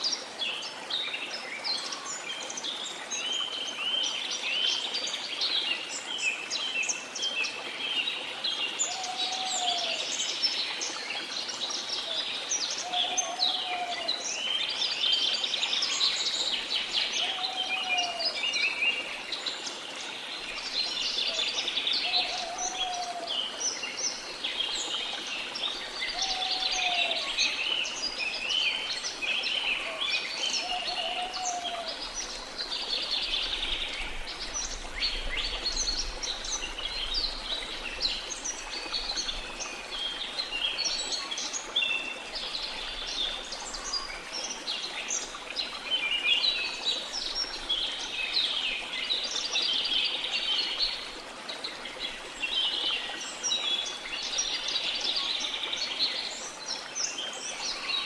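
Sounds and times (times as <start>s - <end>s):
falling water rushing: 0.0s - 58.0s.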